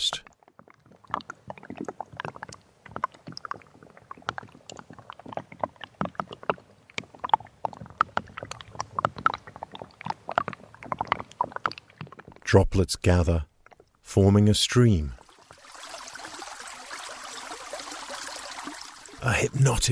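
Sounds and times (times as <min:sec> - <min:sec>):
water dripping and trickling: 0:00.0 - 0:12.5, 0:13.5 - 0:14.1, 0:14.8 - 0:19.9.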